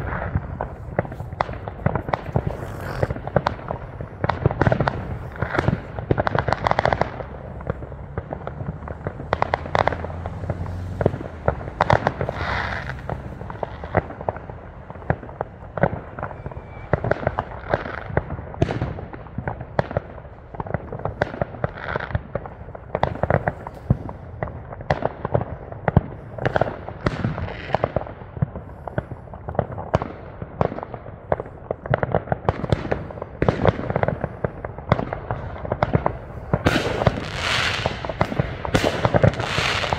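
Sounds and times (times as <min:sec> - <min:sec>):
fireworks bangs and pops: 0:00.0 - 0:39.9
fireworks crackle: 0:00.0 - 0:39.9.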